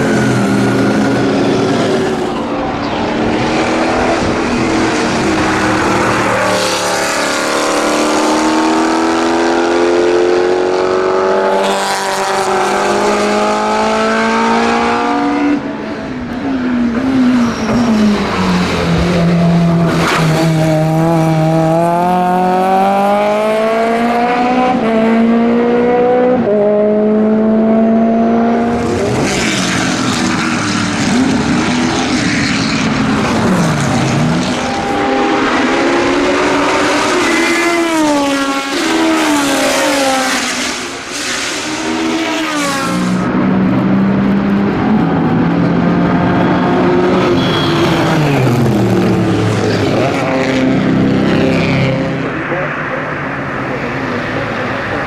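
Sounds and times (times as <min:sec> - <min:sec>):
racing car engines accelerating: 0:00.0 - 0:55.0.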